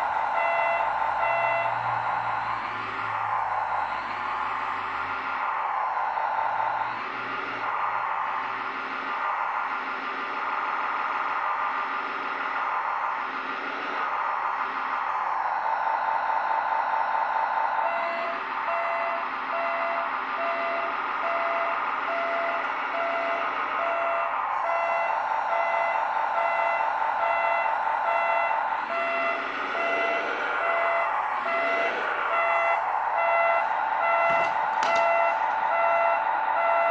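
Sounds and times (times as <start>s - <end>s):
model loader engine: 0.0s - 36.9s
reversing alarm beeping: 0.0s - 36.9s.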